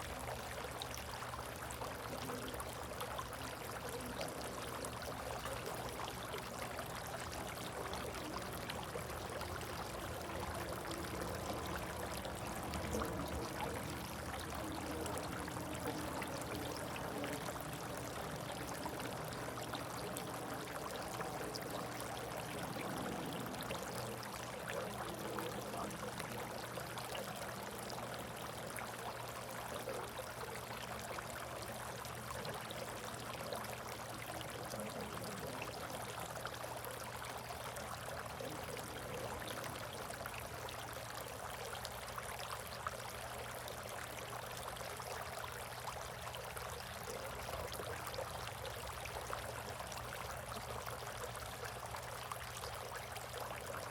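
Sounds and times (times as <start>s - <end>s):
water trickling and splashing: 0.0s - 53.9s.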